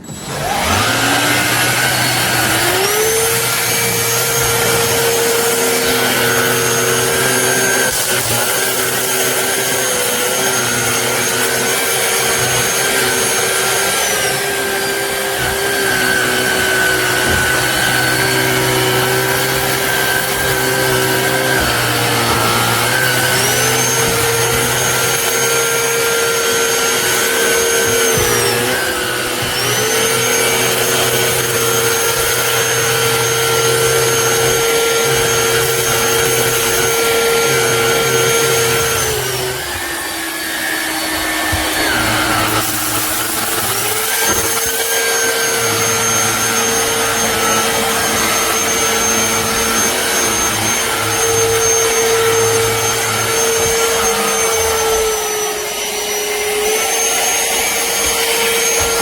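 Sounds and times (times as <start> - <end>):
stick vacuum motor whine: 0.0 - 59.0.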